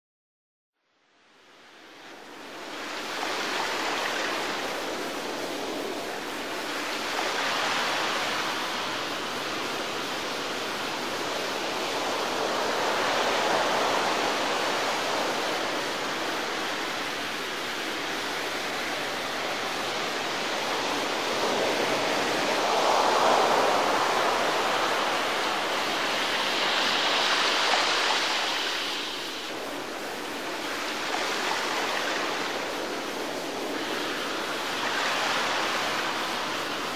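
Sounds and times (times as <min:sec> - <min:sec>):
water rushing along boat hull: 0:02.2 - 0:36.9.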